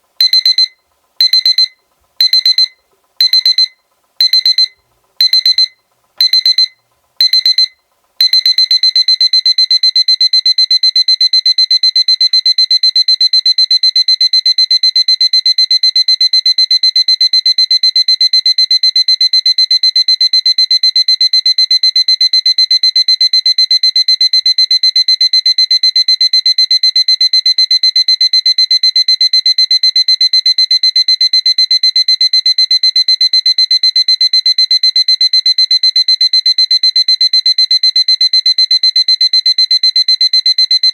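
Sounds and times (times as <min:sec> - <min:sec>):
alarm clock beeping: 0:00.2 - 0:40.9.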